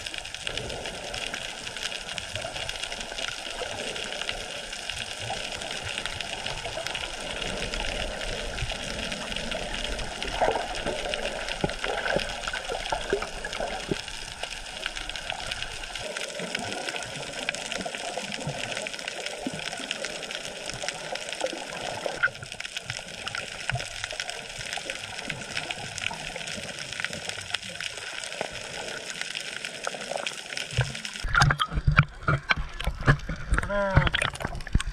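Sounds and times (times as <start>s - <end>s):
gurgling bubbles: 0.0s - 34.9s
muffled underwater water rush: 0.0s - 34.9s
small underwater clicks and crackles: 0.0s - 34.9s.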